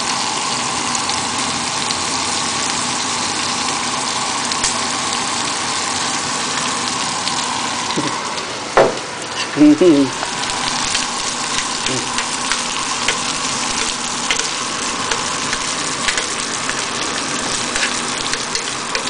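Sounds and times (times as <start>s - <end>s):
shrimp sizzling in oil: 0.0s - 19.0s.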